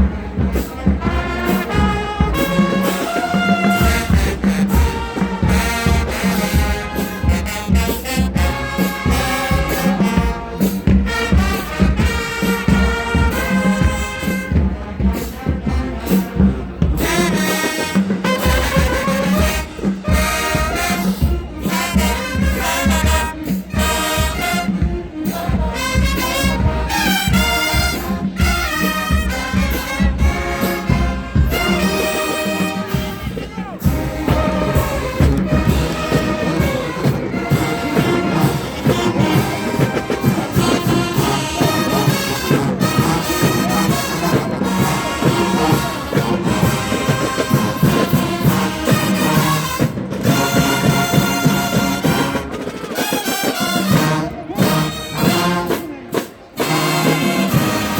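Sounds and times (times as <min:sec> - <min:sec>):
marching band brass: 0:00.0 - 0:57.9
pounding drums: 0:00.0 - 0:57.9.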